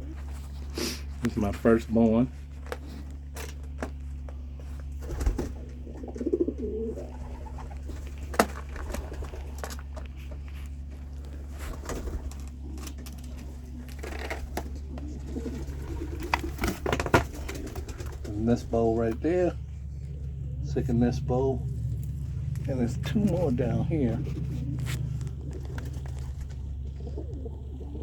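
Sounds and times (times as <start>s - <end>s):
pigeons cooing: 0.0s - 1.8s, 2.4s - 28.0s
low hum: 0.0s - 28.0s.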